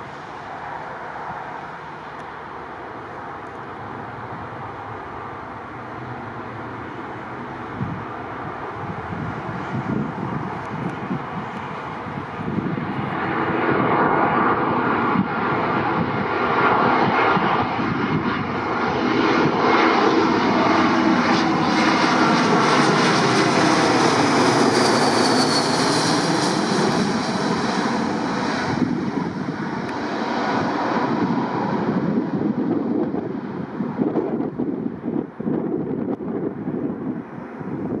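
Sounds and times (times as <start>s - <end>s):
jet airliner passing overhead: 0.0s - 38.0s.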